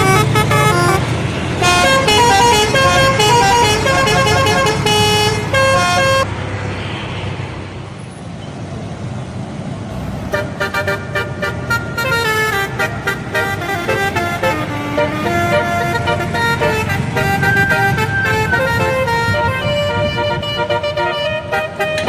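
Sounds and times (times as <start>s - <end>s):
bus horn playing a melody: 0.0s - 6.3s, 10.3s - 22.0s
engine and road noise rumble: 0.0s - 22.0s.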